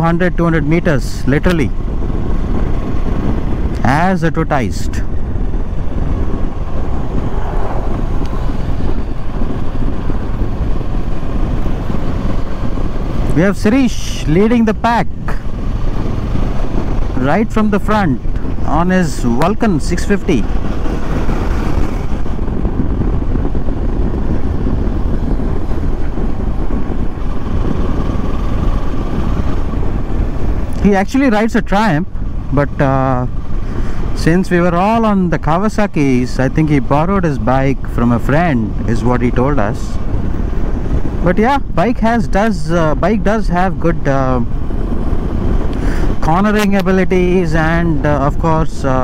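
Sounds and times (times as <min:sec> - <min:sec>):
motorcycle engine: 0:00.0 - 0:49.0
road noise: 0:00.0 - 0:49.0
wind rushing over microphone: 0:00.0 - 0:49.0.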